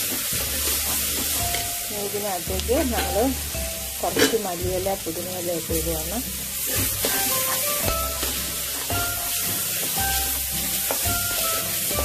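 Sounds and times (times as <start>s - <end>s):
background music with bass: 0.0s - 12.0s
food sizzling in oil: 0.0s - 12.0s.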